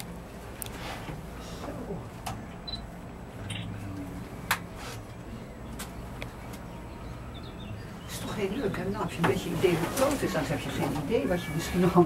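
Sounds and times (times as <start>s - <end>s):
gondola hum and rumble: 0.0s - 12.0s.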